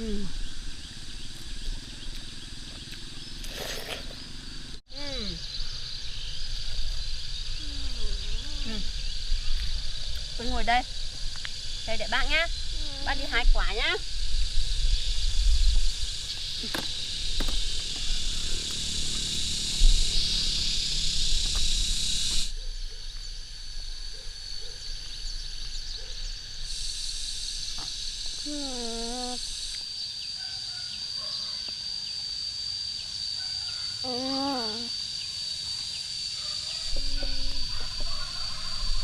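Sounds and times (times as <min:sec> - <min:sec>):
high-pitched insect drone: 0:00.0 - 0:39.0.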